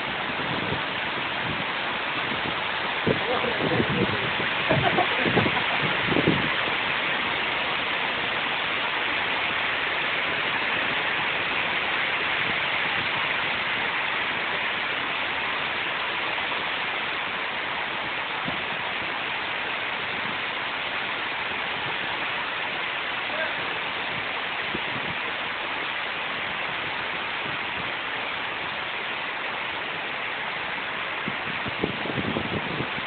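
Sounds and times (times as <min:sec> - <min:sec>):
heavy rain on street: 0:00.0 - 0:33.0.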